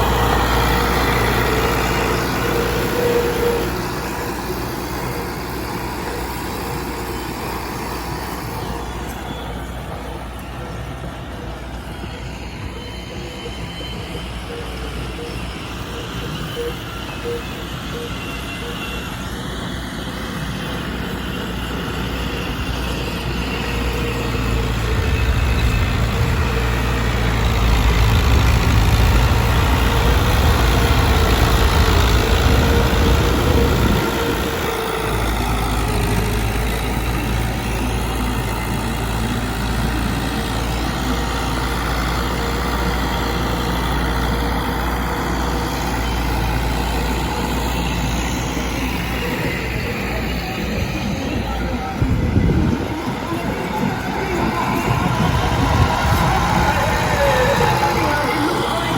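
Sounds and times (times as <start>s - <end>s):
diesel tractor engine running: 0.0s - 58.9s.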